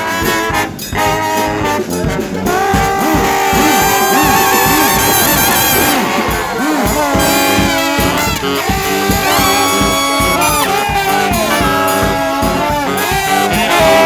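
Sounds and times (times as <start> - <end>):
brass band playing: 0.0 - 14.0
steady drum beat: 0.0 - 14.0.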